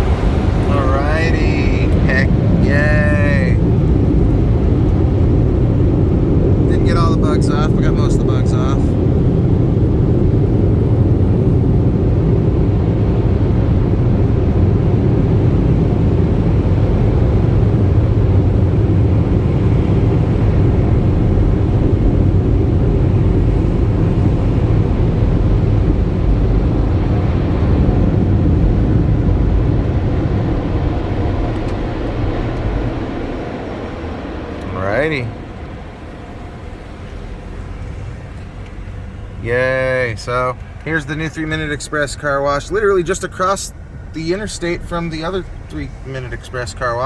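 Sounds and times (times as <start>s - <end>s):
car wash air blowers: 0.0s - 47.0s.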